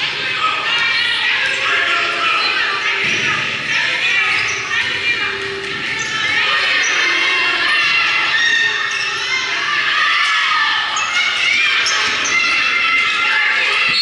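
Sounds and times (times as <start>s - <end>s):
crowd shouting and cheering: 0.0s - 14.0s.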